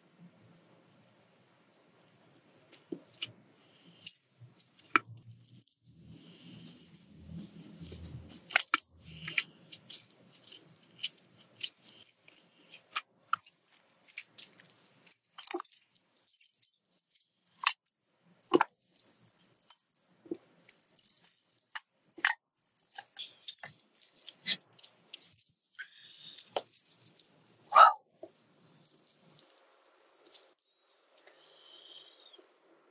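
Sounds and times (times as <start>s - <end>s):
chewing and biting food: 3.9s - 31.3s.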